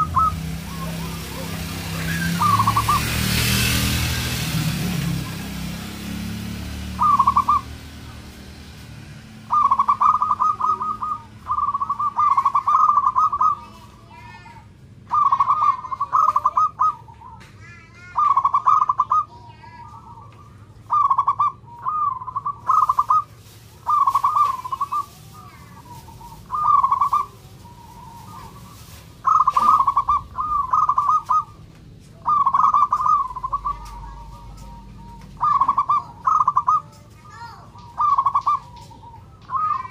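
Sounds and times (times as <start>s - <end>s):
dove trilled cooing song: 0.0s - 8.2s, 9.4s - 39.9s
small birds chirping: 0.0s - 39.9s.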